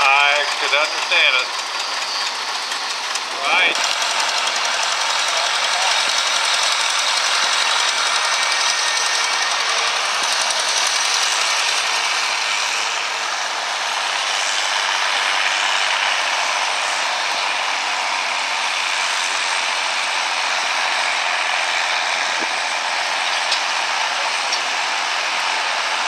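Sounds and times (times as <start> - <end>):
diesel tractor engine running hard: 0.0 - 26.0.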